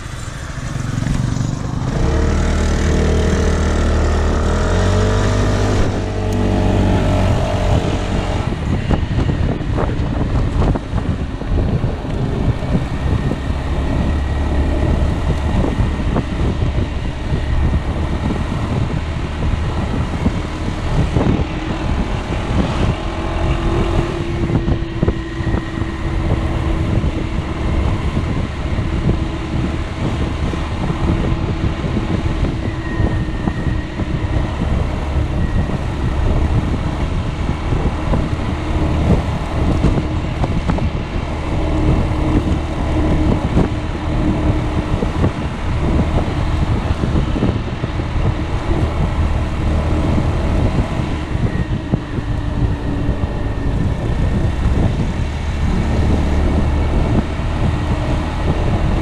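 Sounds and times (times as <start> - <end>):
scooter engine running steadily: 0.0 - 59.0
wind and road noise: 0.0 - 59.0.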